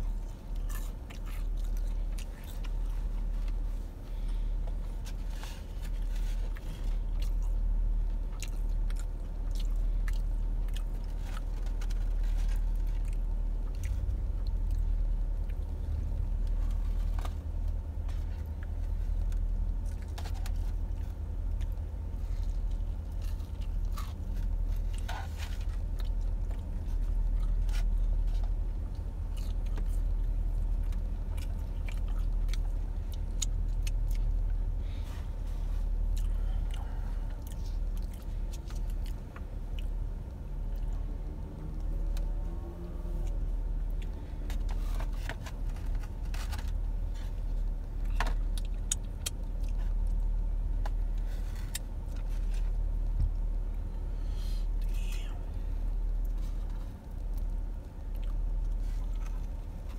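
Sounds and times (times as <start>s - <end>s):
car engine low rumble: 0.0s - 59.9s
person chewing fried food: 0.0s - 59.9s.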